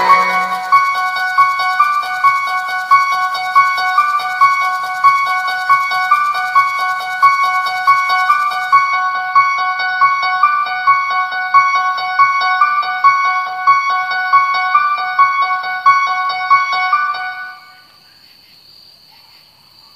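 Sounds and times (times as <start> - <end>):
fast repeating high piano notes: 0.0 - 17.7.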